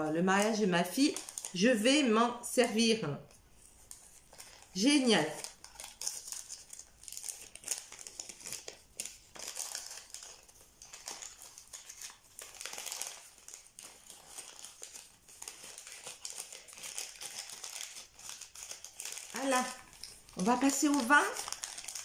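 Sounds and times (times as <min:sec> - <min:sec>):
paper packaging rustling and crinkling: 0:00.0 - 0:01.6, 0:02.7 - 0:22.0.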